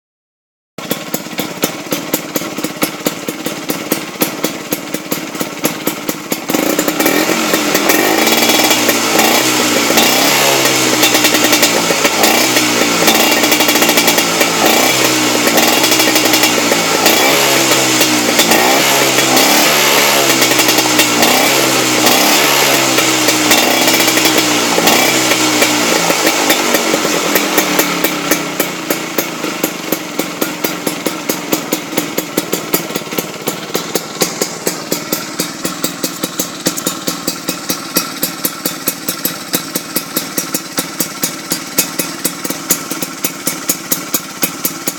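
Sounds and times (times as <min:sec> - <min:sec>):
scooter engine idling and revving: 0:00.8 - 0:44.9.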